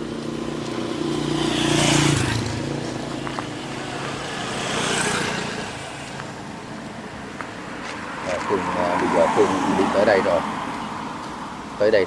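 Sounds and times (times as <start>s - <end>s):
road vehicles passing: 0.0s - 12.0s.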